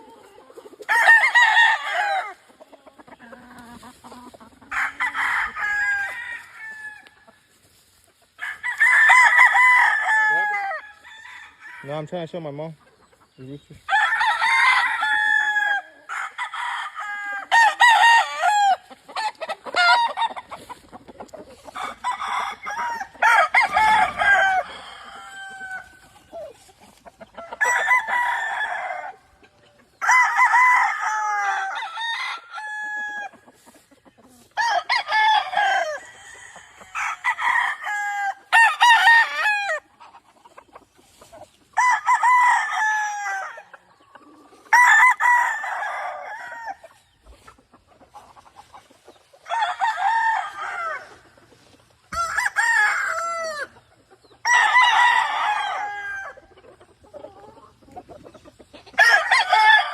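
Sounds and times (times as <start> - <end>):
roosters crowing: 0.0 - 7.6, 8.2 - 12.2, 13.8 - 40.2, 41.7 - 58.2, 58.8 - 59.9
chickens clucking: 0.0 - 59.9.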